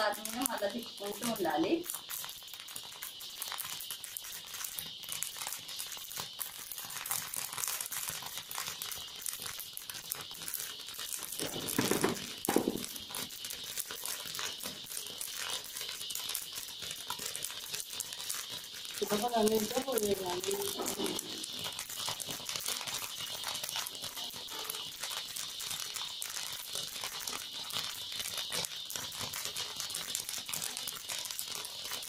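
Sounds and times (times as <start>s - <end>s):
grains popping in pan: 0.0s - 32.0s.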